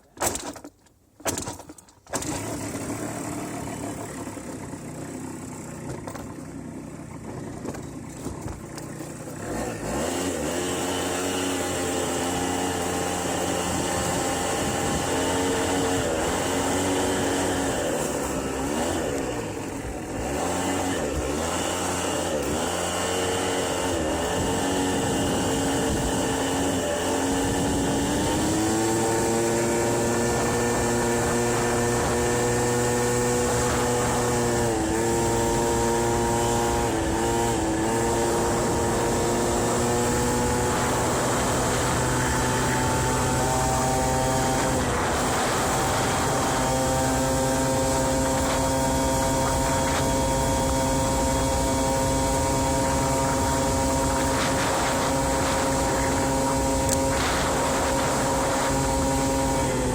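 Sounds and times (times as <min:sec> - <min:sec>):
scooter engine running: 0:01.2 - 0:59.9.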